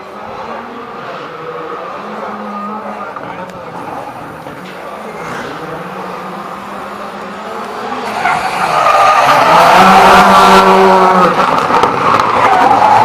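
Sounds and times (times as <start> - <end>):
rally car engine: 0.0 - 13.0.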